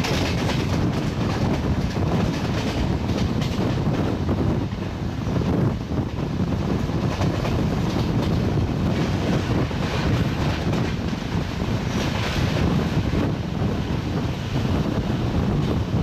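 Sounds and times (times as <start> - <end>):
train coaches rushing past: 0.0 - 16.0
wind buffeting microphone: 0.0 - 16.0.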